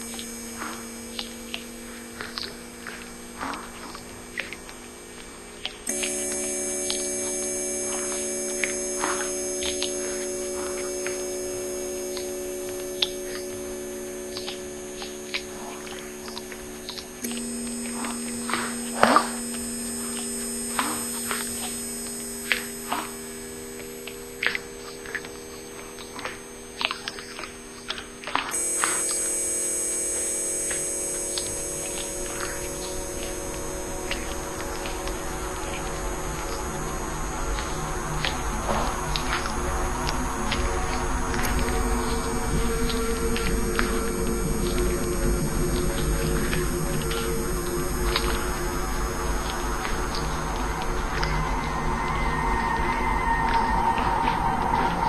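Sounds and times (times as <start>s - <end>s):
short scattered clicks: 0.0s - 51.4s
electronic drone chord: 0.0s - 55.0s.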